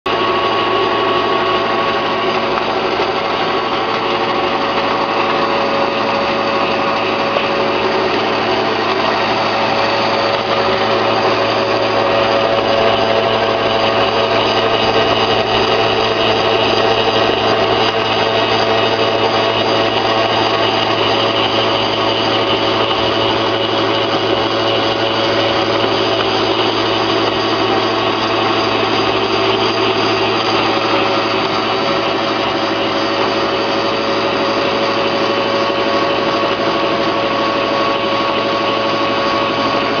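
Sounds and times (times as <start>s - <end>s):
pellet mill mechanical hum: 0.1s - 40.0s
rough grinding noise: 0.1s - 40.0s.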